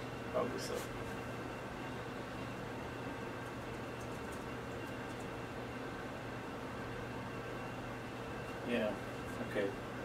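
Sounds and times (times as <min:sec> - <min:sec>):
desktop computer whirring: 0:00.0 - 0:10.0
faint hum: 0:00.0 - 0:10.0.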